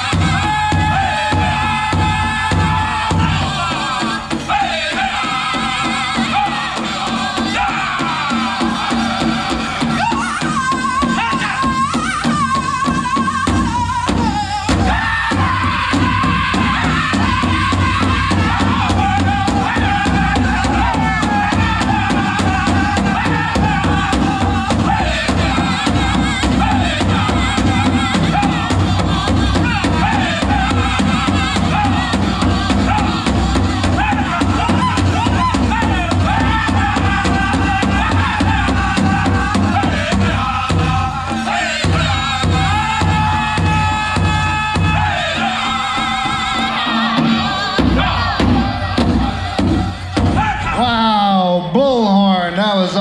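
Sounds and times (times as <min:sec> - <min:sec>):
group singing together: 0:00.0 - 0:50.9
big drum beating: 0:00.0 - 0:51.2.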